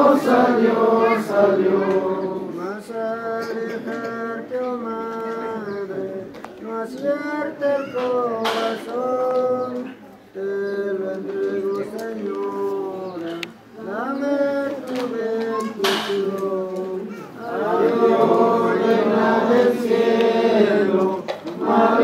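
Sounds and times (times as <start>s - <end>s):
group singing a hymn: 0.0s - 22.0s.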